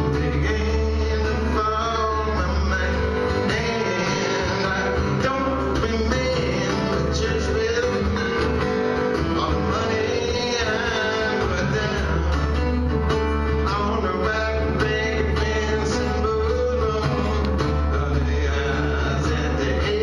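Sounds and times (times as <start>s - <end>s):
acoustic guitars playing: 0.0s - 20.0s
man singing: 0.0s - 20.0s.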